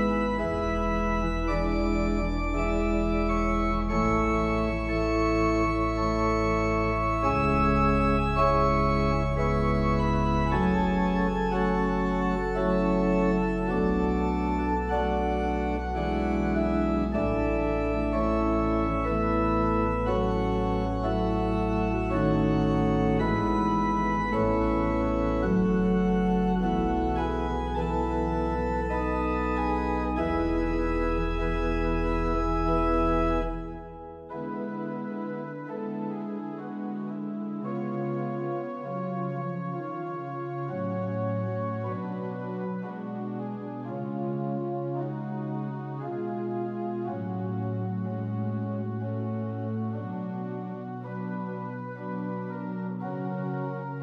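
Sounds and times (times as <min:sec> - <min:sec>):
church organ chords: 0:00.0 - 0:54.0
deep organ pedal bass notes: 0:00.0 - 0:54.0.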